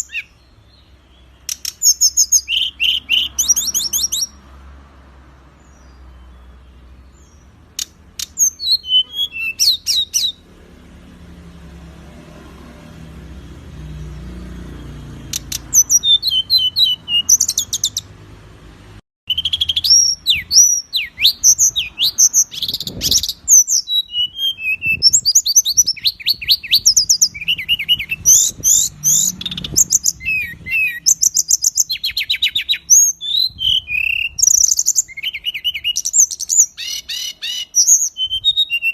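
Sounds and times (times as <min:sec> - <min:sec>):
songbird singing trills: 0:00.0 - 0:04.4, 0:05.6 - 0:10.5, 0:13.8 - 0:18.2, 0:19.3 - 0:38.9.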